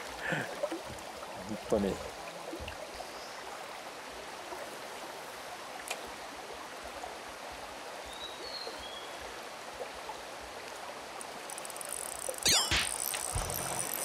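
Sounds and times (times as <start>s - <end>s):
stream water over rocks: 0.0s - 14.0s.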